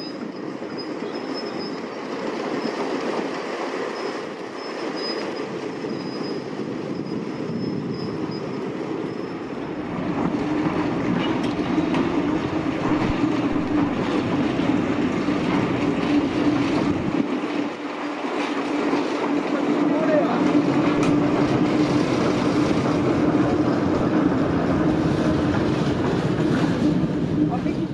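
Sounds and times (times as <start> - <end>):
diesel locomotive engine: 0.0 - 27.9
wheel and rail noise: 0.0 - 27.9.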